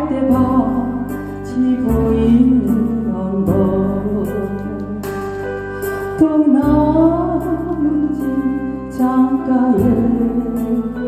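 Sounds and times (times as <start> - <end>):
slow ballad backing track: 0.0 - 11.0.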